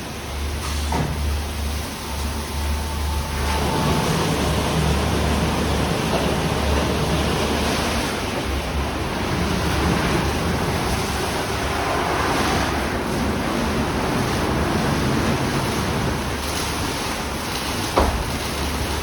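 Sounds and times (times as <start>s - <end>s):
car wash spraying water: 0.0s - 19.0s
low machine hum: 0.0s - 19.0s.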